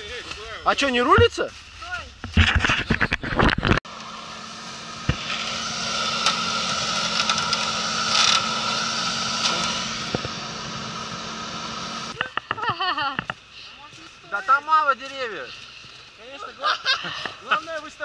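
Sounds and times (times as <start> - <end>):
engine humming: 2.6 - 17.6.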